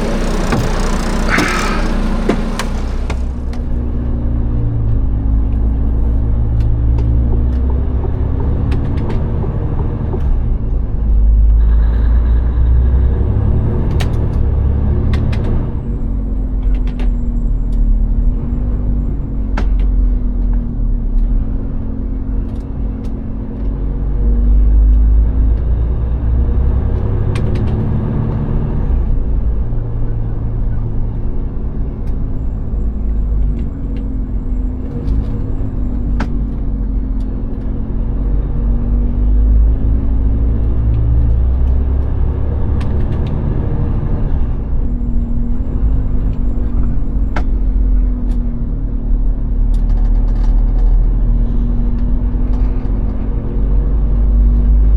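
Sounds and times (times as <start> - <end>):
diesel truck engine drone: 0.0 - 54.9.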